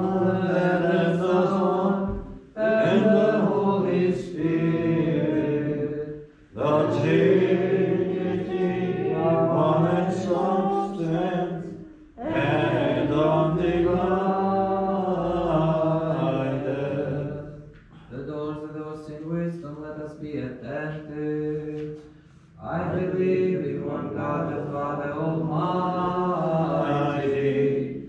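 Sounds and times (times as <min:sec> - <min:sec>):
unaccompanied voices chanting: 0:00.0 - 0:28.0.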